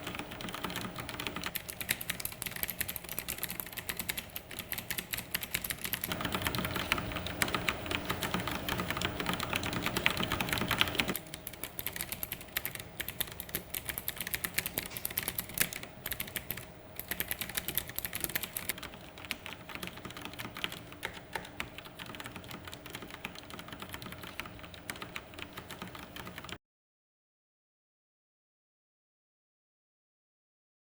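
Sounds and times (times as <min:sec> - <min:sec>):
mechanical keyboard typing: 0:00.0 - 0:26.6.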